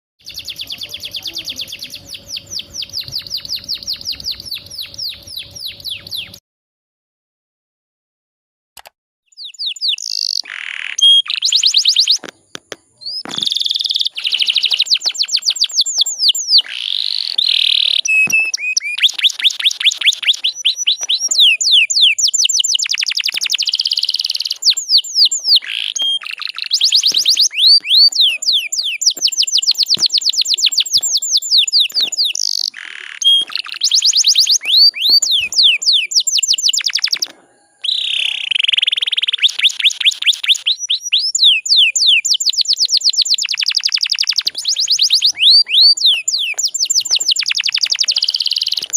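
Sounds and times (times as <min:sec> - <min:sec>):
canary trilling chirps: 0:00.2 - 0:06.4, 0:09.3 - 0:12.2, 0:13.0 - 0:48.9.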